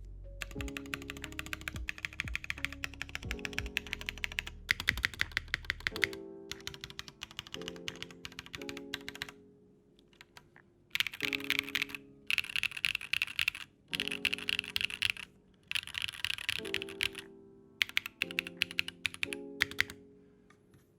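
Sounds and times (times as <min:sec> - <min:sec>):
soft background music: 0:00.0 - 0:20.9
mechanical keyboard typing: 0:00.4 - 0:09.4, 0:10.2 - 0:20.0.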